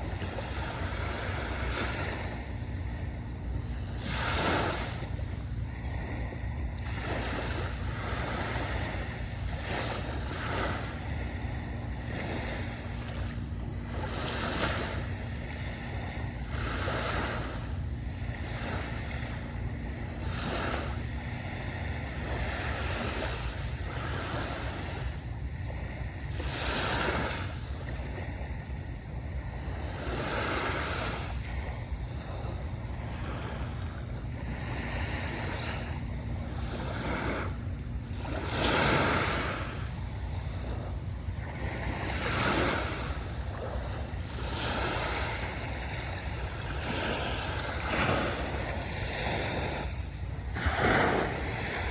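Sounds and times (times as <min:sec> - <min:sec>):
low rumble of surf: 0:00.0 - 0:51.9
small waves washing up a beach: 0:00.0 - 0:51.9.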